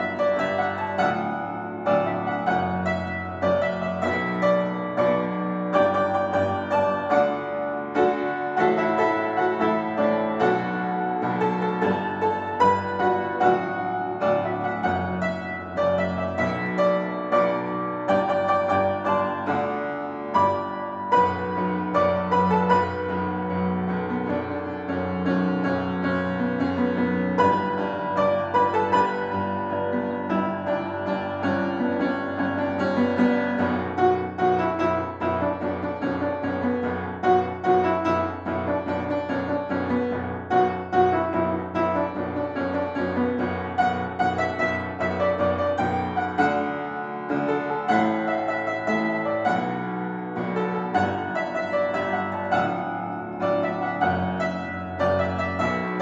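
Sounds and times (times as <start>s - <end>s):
upright piano playing pop: 0.0s - 56.0s.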